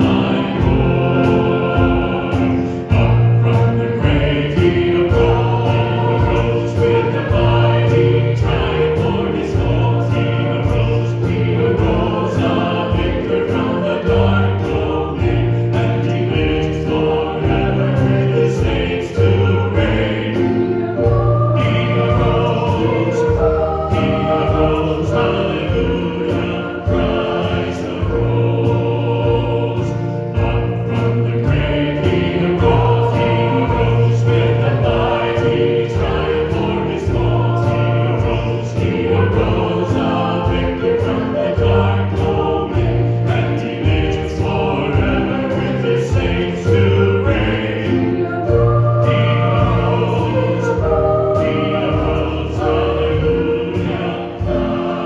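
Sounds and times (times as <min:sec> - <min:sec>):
congregation singing a hymn: 0:00.0 - 0:55.0
instrumental accompaniment: 0:00.0 - 0:55.0
steady beat: 0:00.0 - 0:55.0.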